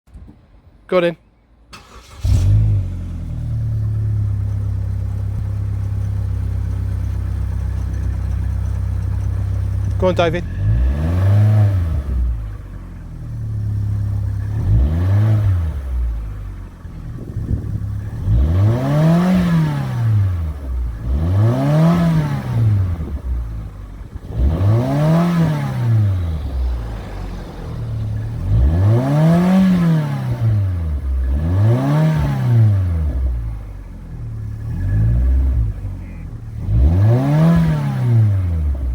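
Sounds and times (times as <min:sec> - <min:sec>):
car engine idling: 0:01.4 - 0:38.9
car engine revving: 0:01.8 - 0:38.9.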